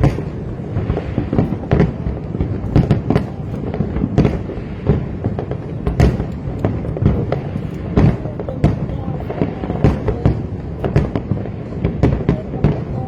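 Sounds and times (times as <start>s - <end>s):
fireworks booming bursts: 0.0s - 13.0s
fireworks crackling: 0.0s - 13.0s.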